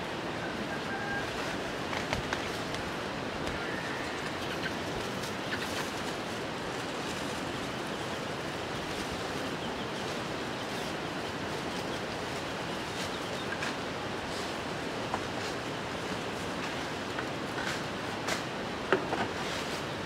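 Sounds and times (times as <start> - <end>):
steady rushing outdoor noise: 0.0 - 20.0.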